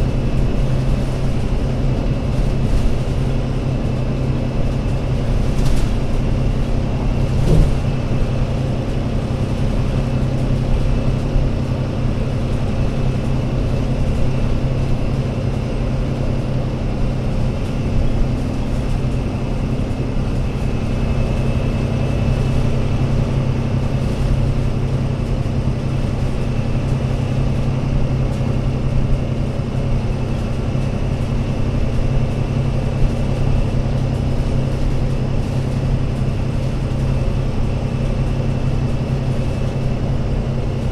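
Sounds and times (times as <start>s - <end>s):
diesel bus engine droning: 0.0s - 40.9s.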